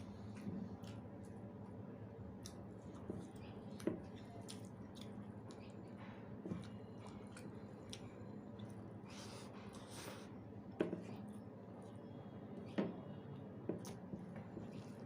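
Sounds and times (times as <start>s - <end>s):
person chewing wet food: 0.0s - 15.0s.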